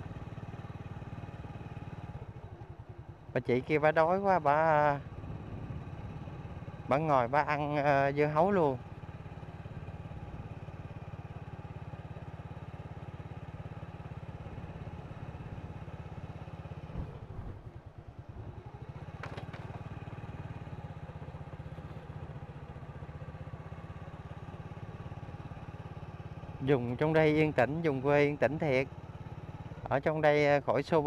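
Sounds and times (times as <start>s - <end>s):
small motorbike engine running: 0.0s - 31.0s.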